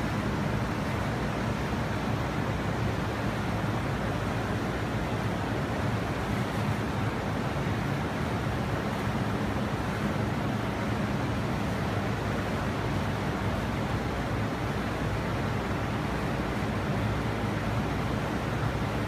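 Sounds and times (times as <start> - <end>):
air conditioner fan rush: 0.0 - 19.0.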